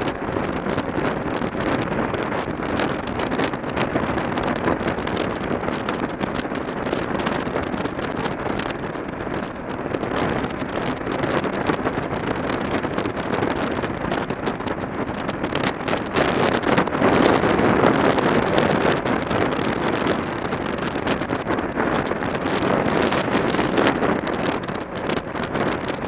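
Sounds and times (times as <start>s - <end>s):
motorcycle engine and tyre noise: 0.0s - 26.0s
wind buffeting microphone: 0.0s - 26.0s.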